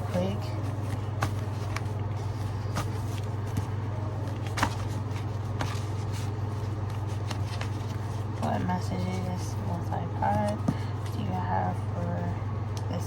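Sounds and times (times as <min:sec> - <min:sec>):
cards shuffling taps and clicks: 0:00.0 - 0:11.3
steady low hum: 0:00.0 - 0:13.0.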